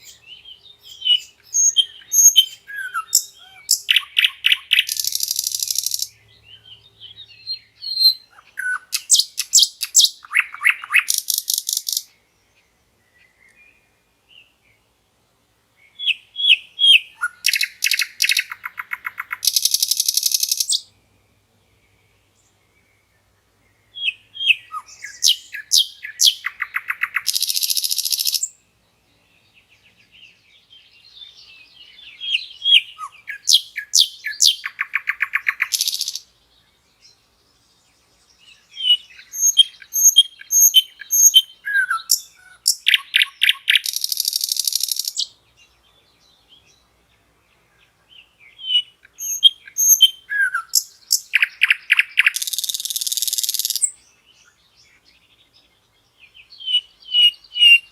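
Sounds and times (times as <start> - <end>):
nightingale singing: 0.0 - 15.0, 15.7 - 57.9.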